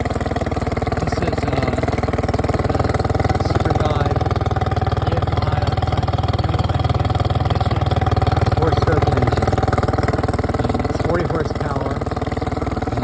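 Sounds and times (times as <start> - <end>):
outboard engine idling: 0.0 - 13.0.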